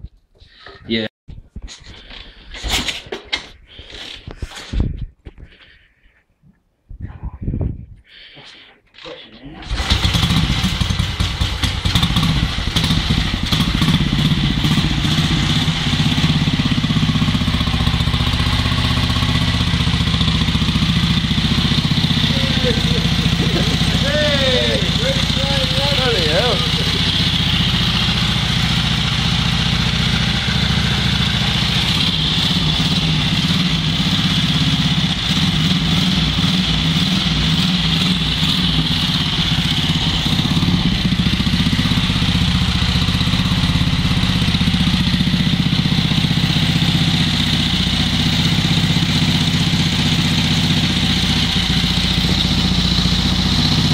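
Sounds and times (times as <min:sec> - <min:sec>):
motorcycle engine idling: 0:09.7 - 0:53.9.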